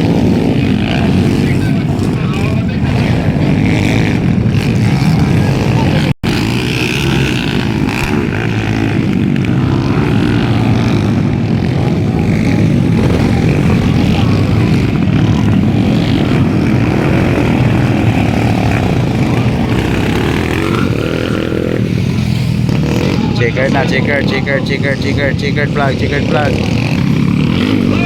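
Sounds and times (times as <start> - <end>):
motorcycle engines racing: 0.0 - 28.0.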